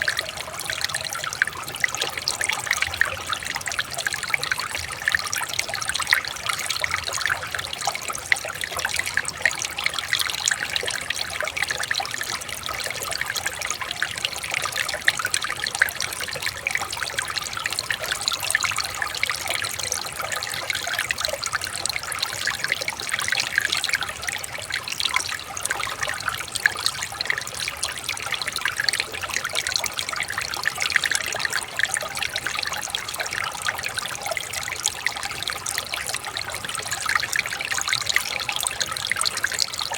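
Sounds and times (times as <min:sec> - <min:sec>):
water trickling over rocks: 0:00.0 - 0:39.9.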